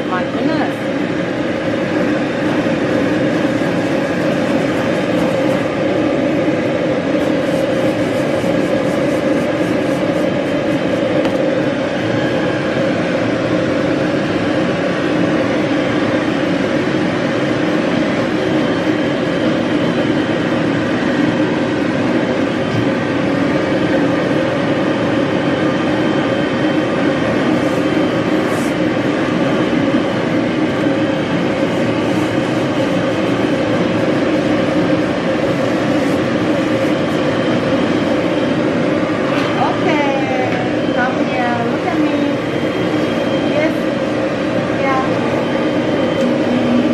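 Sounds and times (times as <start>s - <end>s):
grooming dryer blowing air: 0.0s - 46.9s.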